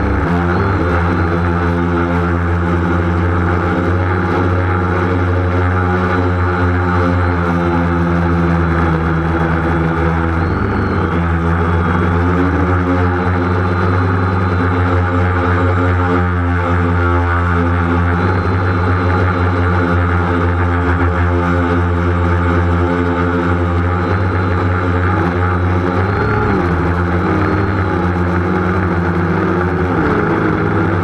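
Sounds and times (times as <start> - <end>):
drone propellers whirring: 0.0 - 31.0.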